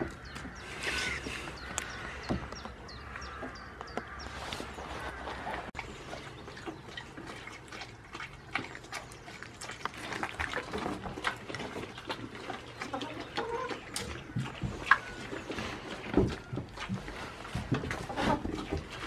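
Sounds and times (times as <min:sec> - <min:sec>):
goats crunching fruit: 0:00.0 - 0:19.0.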